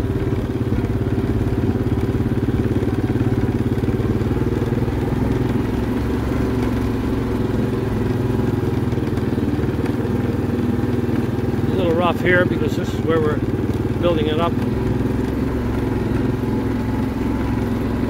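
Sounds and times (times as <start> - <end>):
atv engine running: 0.0 - 18.0
tyres on gravel: 0.0 - 18.0.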